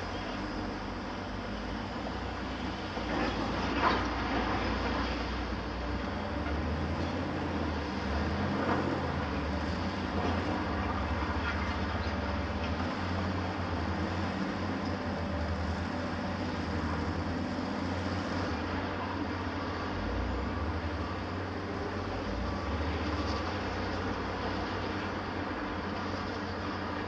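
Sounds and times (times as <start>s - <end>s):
heavy diesel engines droning: 0.0s - 27.0s.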